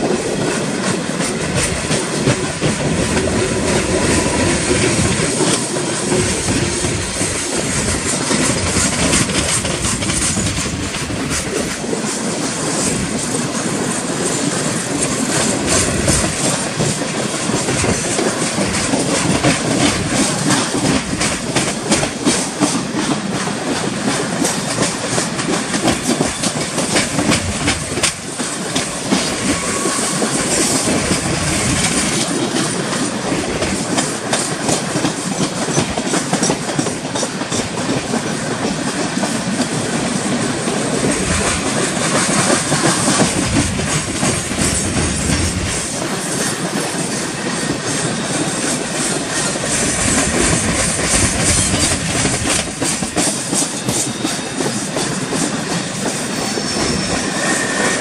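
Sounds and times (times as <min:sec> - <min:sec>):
train wheels rumbling: 0:00.0 - 0:58.0
wheels clicking over rail joints: 0:00.0 - 0:58.0.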